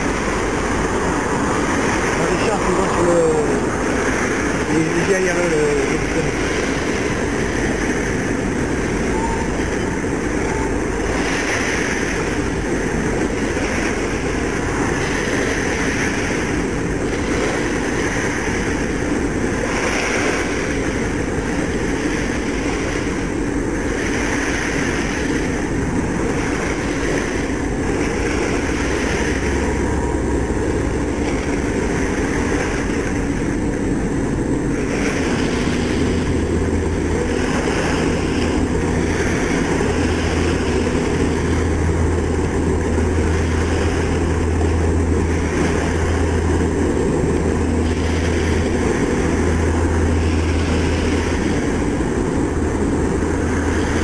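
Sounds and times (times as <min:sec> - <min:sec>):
boat engine rumble: 0:00.0 - 0:54.0
water noise: 0:00.0 - 0:54.0
wind: 0:00.0 - 0:54.0.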